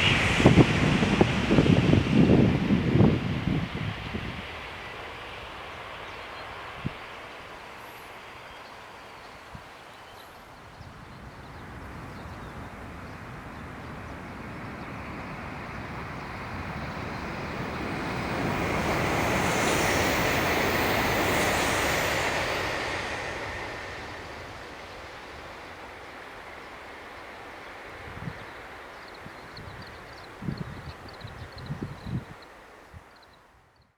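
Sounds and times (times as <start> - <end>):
train passing at speed: 0.0 - 33.5.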